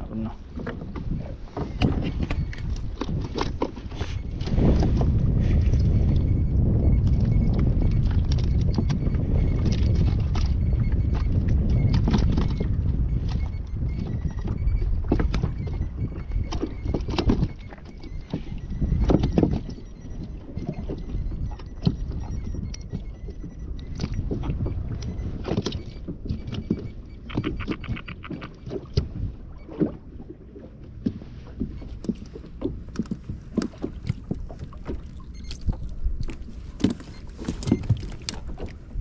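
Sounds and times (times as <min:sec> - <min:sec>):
water slapping kayak hull: 0:00.0 - 0:39.0
wind rumble on microphone: 0:00.0 - 0:39.0
clicks and knocks in kayak: 0:00.3 - 0:39.0.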